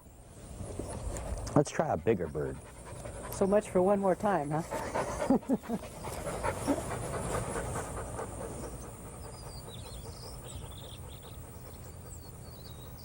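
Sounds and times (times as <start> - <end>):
dog panting: 1.7 - 13.0.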